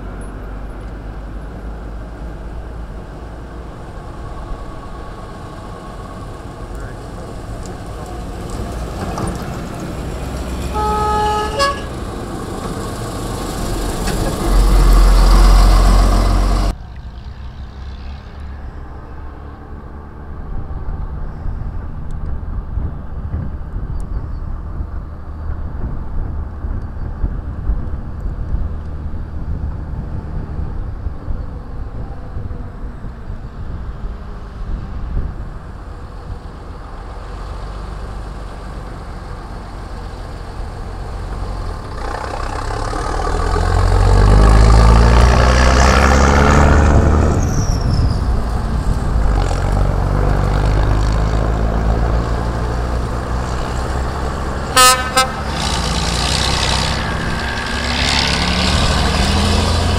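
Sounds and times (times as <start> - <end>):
diesel trucks driving past: 0.0 - 59.9.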